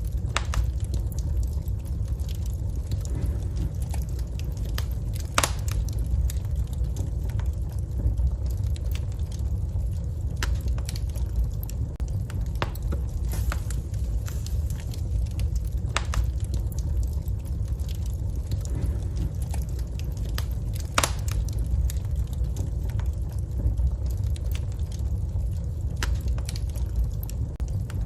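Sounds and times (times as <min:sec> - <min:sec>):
fire crackling and popping: 0:00.0 - 0:28.0
low rumble of flames: 0:00.0 - 0:28.0.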